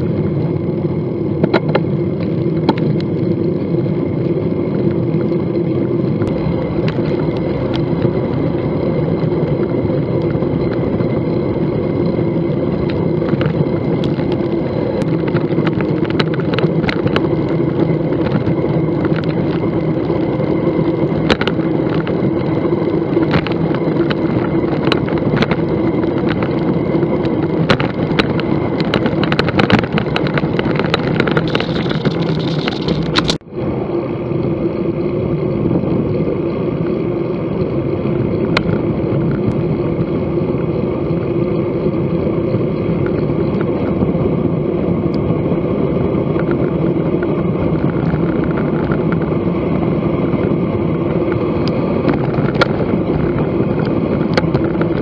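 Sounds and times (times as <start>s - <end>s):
bicycle tyre noise on pavement: 0.0s - 55.0s
wind on the microphone: 0.0s - 55.0s.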